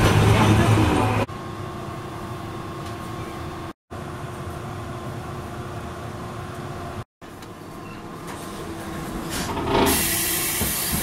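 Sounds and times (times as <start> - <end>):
tram interior hum: 0.0 - 11.0.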